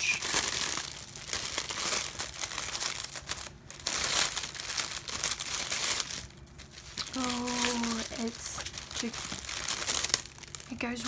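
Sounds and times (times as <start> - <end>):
crinkly packaging rustling: 0.0 - 11.0.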